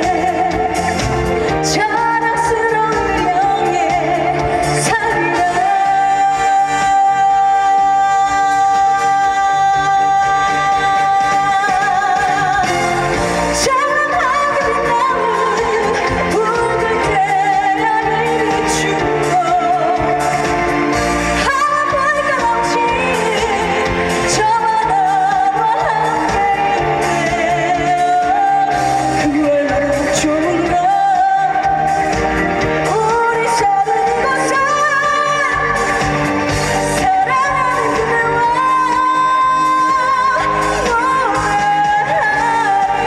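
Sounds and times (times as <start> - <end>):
loud instrumental accompaniment: 0.0 - 43.0
woman singing with vibrato: 0.0 - 43.0.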